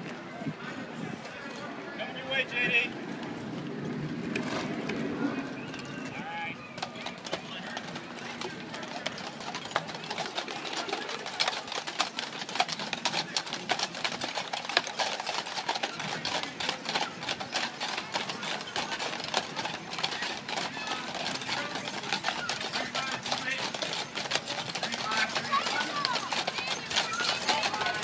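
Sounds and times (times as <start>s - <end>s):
hooves clip-clopping on asphalt: 0.0s - 28.0s.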